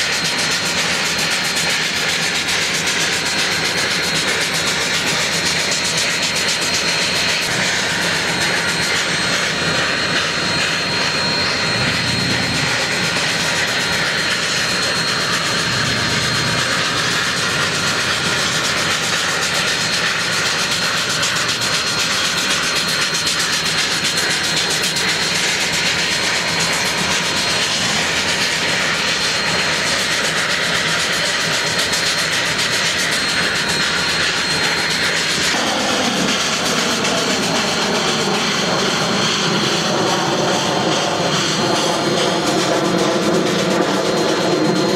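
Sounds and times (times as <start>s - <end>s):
steam locomotive venting steam: 0.0s - 44.9s.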